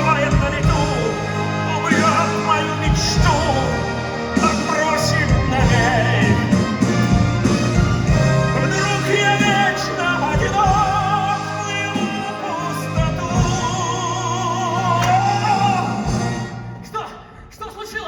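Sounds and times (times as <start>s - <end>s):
male voices singing with vibrato: 0.0s - 16.6s
band accompaniment: 0.0s - 17.8s.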